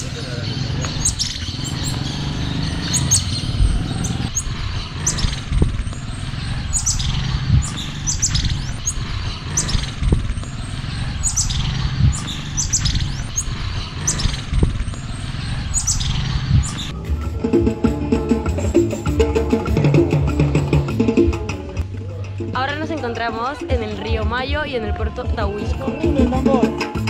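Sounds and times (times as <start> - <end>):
high downward-sliding chirps: 0.0 - 22.6
steady low rumble: 0.0 - 25.6.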